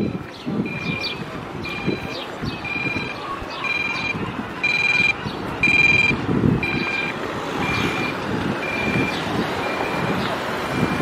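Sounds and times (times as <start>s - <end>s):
crossing signal beeping: 0.0s - 11.0s
street traffic noise: 0.0s - 11.0s.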